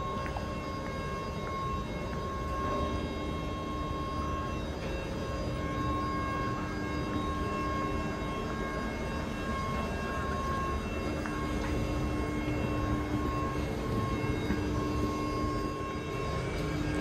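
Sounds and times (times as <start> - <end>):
electrical equipment hum: 0.0 - 17.0
high whine: 0.0 - 17.0.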